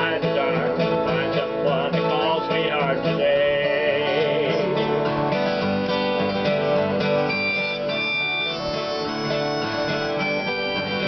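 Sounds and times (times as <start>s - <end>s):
acoustic guitars strummed and picked: 0.0s - 11.0s.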